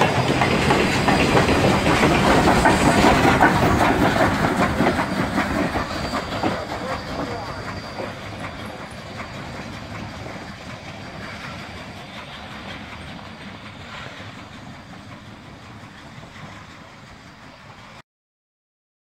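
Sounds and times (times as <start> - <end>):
train wheels clicking over rails: 0.0 - 18.0.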